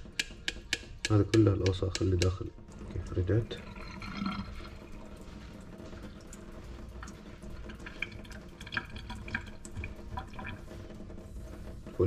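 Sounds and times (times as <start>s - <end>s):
water dripping into metal sink: 0.0s - 11.1s
low steady hum: 0.0s - 12.0s.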